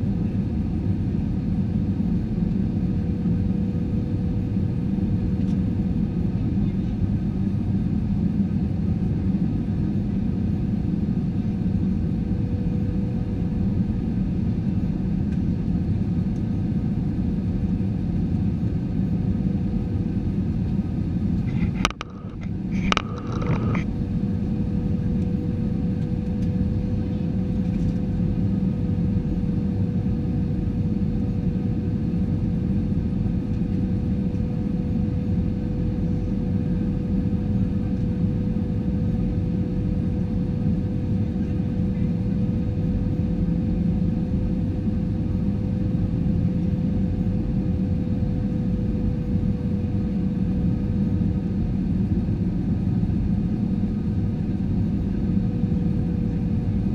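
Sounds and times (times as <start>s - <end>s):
aircraft engine rumble: 0.0s - 56.9s
faint steady hum: 0.0s - 56.9s.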